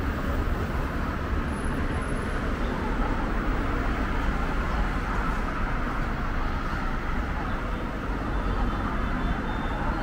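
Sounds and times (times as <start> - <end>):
city road traffic: 0.0 - 10.0.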